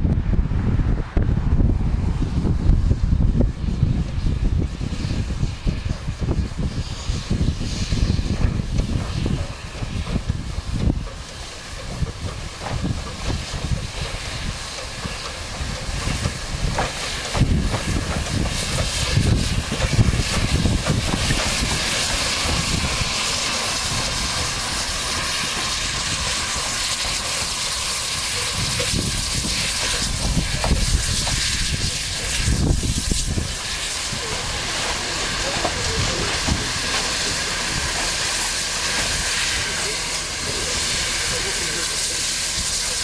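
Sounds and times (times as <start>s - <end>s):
wind buffeting microphone: 0.0s - 42.9s
steam locomotive hissing steam: 1.0s - 43.0s.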